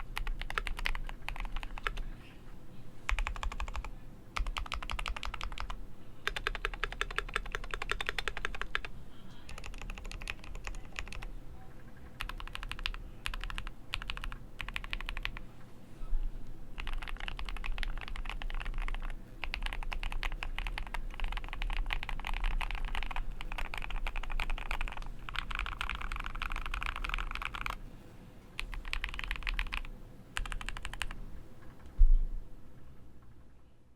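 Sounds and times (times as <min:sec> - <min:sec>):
mechanical keyboard typing: 0:00.0 - 0:02.1, 0:03.1 - 0:15.4, 0:16.8 - 0:27.8, 0:28.6 - 0:31.9.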